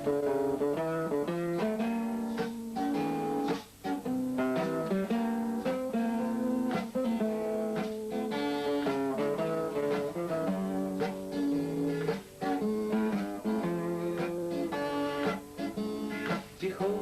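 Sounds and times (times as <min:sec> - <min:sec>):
guitar melody over strummed chords: 0:00.0 - 0:17.0.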